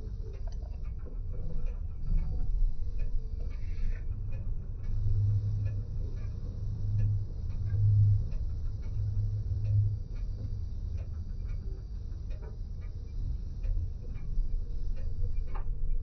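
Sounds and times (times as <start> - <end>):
faint clicks: 0.0 - 16.0
vehicle rumble on highway: 1.4 - 16.0.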